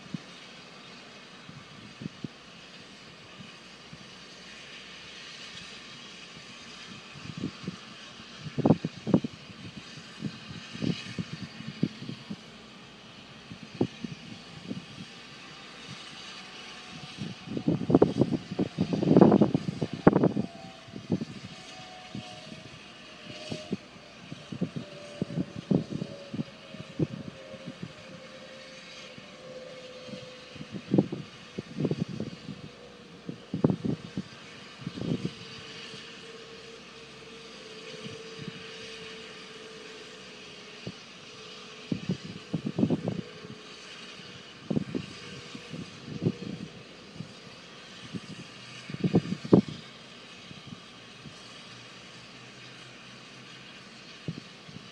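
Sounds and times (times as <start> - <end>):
faint steady whine: 0.0 - 54.9
steam locomotive hissing: 0.0 - 54.9.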